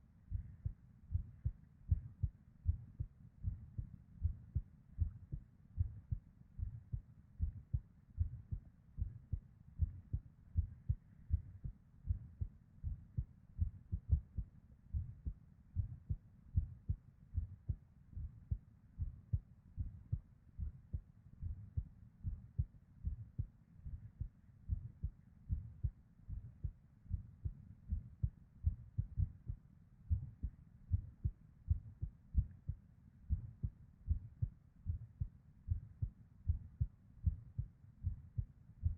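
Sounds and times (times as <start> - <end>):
heartbeat inside chest: 0.3 - 38.9.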